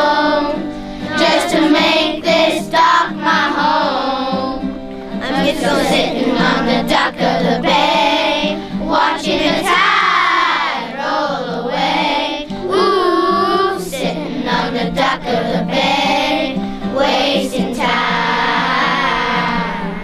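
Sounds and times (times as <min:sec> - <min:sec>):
children singing together: 0:00.0 - 0:20.0
musical accompaniment: 0:00.0 - 0:20.0.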